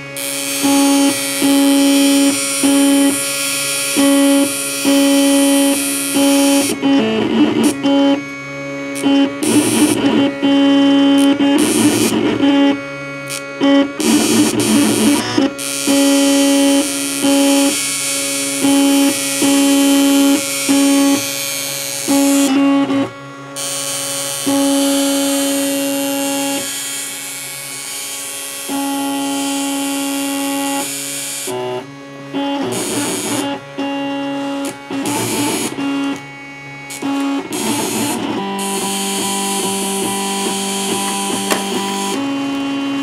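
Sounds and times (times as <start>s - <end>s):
stepper motors whining: 0.0s - 27.9s, 32.4s - 43.0s
rough buzzing: 0.0s - 43.0s.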